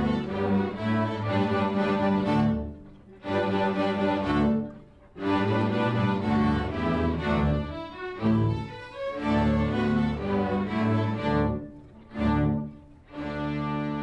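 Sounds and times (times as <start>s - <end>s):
string orchestra playing: 0.0s - 14.0s.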